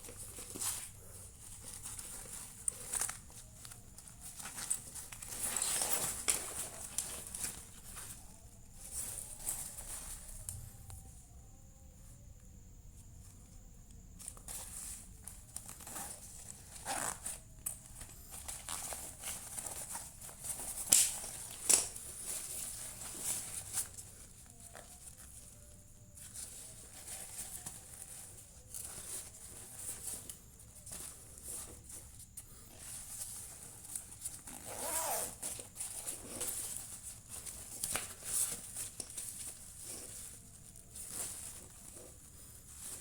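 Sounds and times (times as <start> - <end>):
fabric and packaging rustling: 0.0 - 43.0.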